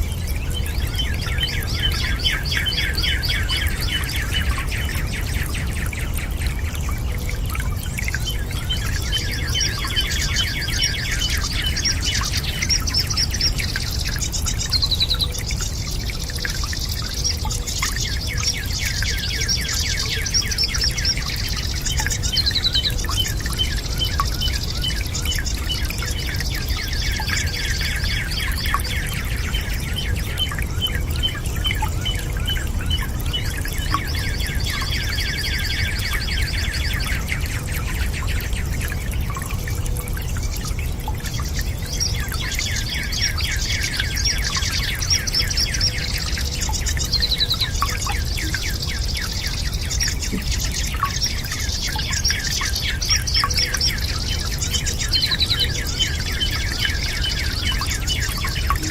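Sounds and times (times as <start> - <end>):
birds chirping in trills: 0.0 - 58.9.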